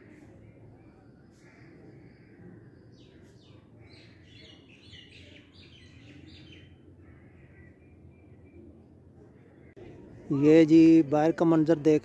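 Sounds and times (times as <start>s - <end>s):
small birds chirping: 0.0s - 11.7s
low steady background noise: 0.0s - 12.0s.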